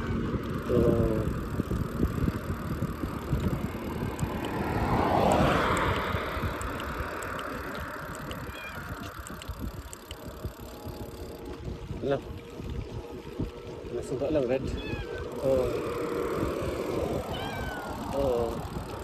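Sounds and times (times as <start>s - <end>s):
road noise: 0.0s - 19.0s
vehicle passing: 0.0s - 19.0s
wind rumbling on microphone: 0.0s - 19.0s.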